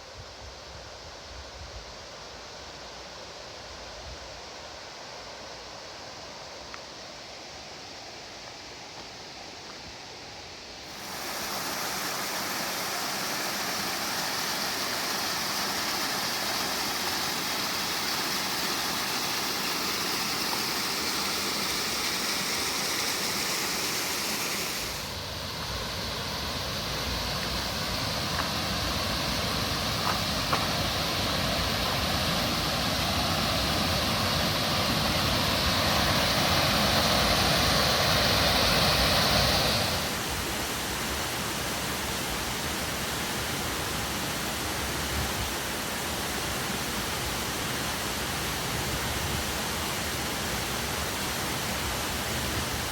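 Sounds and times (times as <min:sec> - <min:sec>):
creek and waterfall rushing: 0:10.4 - 0:52.9.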